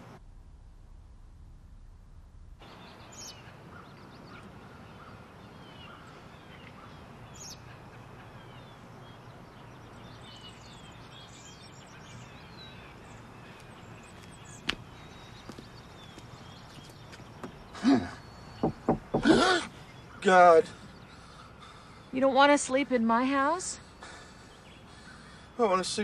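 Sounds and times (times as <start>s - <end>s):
small birds chirping: 2.6s - 26.0s.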